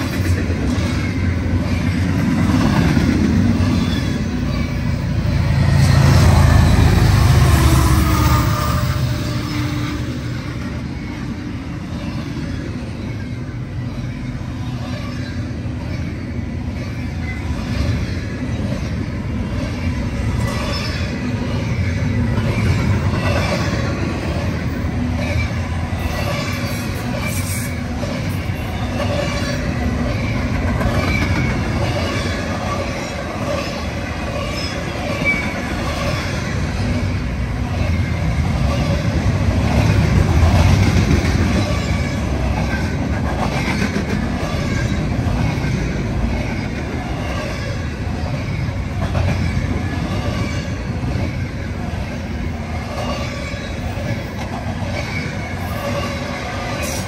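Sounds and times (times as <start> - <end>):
steel wheels on rail: 0.0 - 57.0.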